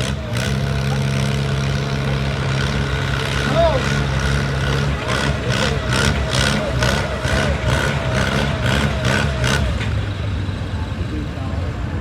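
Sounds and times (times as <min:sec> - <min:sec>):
tractor engine under load: 0:00.0 - 0:12.0.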